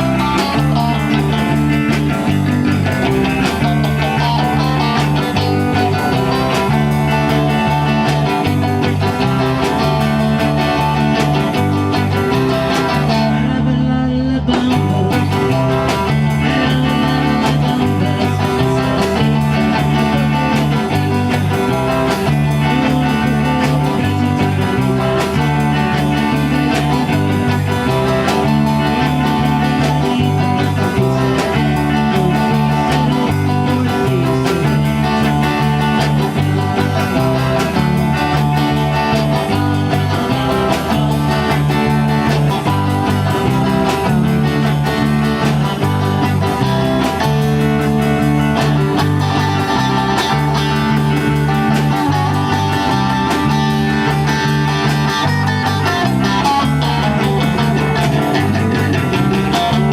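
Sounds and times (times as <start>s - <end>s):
live blues-rock band: 0.0s - 59.9s
repeating bass line: 0.0s - 59.9s.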